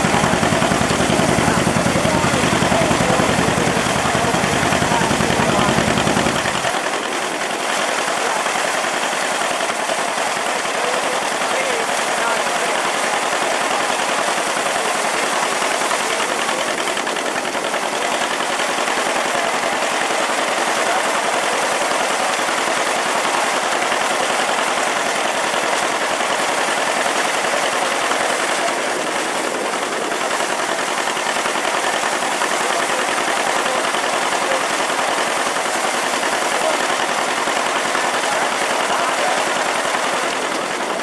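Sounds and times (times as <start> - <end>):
grain thresher clattering: 0.0 - 41.0.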